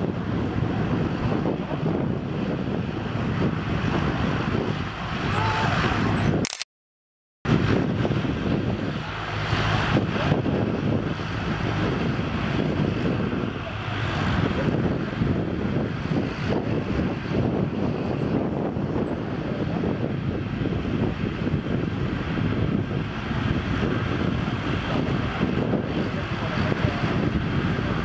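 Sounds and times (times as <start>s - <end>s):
jet engines running: 0.0s - 6.4s, 7.5s - 28.0s.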